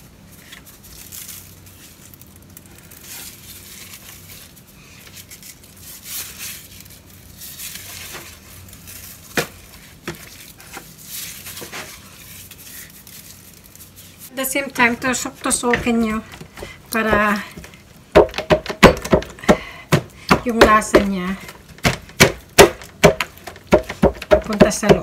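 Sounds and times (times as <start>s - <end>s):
foil pan crinkling: 0.0s - 25.0s.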